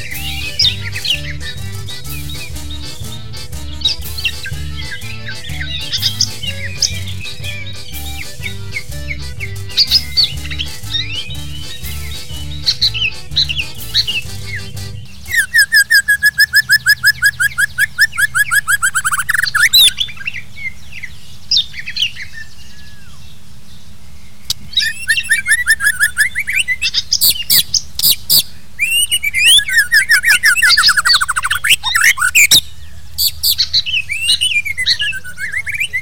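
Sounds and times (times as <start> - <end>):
bird singing whistled phrases: 0.0 - 20.4, 24.7 - 36.0.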